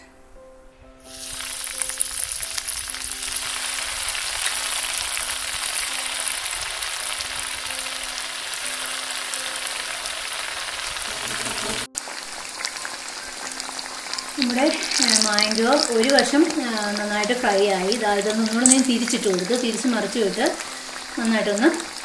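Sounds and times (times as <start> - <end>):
food deep-frying in hot oil: 1.0 - 22.0.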